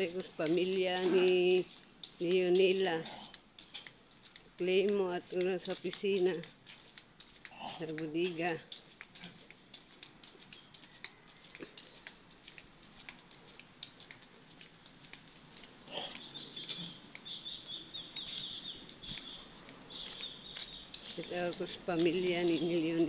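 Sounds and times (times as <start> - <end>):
flip-flops slapping on concrete: 0.0 - 23.0.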